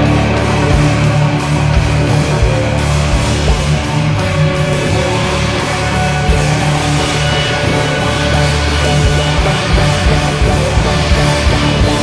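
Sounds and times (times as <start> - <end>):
loud instrumental noise rock: 0.0 - 12.0.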